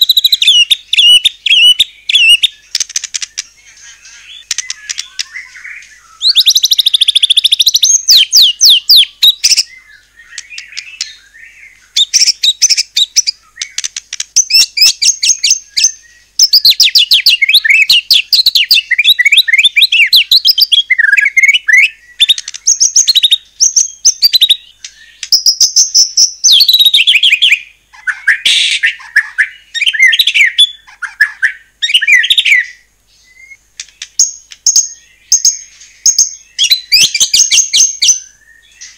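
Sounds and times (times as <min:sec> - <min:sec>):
songbird trilling and whistling: 0:00.0 - 0:38.9.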